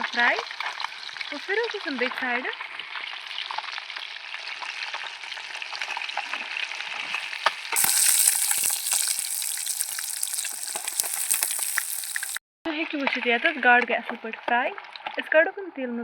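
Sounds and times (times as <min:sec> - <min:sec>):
fish sizzling in hot oil: 0:00.0 - 0:12.4, 0:13.0 - 0:15.6.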